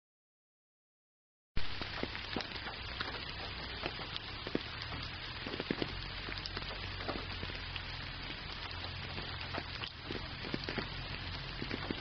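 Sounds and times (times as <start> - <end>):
steady rain falling: 1.6 - 12.0
ticks of single raindrops: 1.6 - 12.0.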